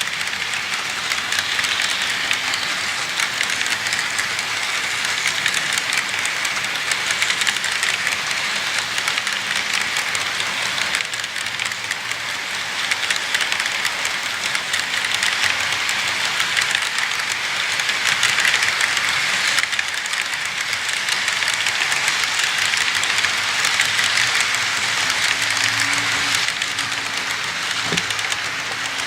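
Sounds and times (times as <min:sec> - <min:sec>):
train wheels clattering on rails: 0:00.0 - 0:29.0.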